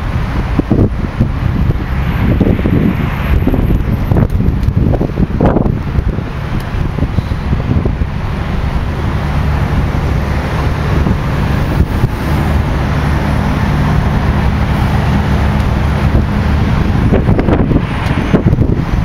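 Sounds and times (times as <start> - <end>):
bus engine drone: 0.0 - 19.0
road and traffic noise: 0.0 - 19.0
wind buffeting microphone: 0.0 - 19.0.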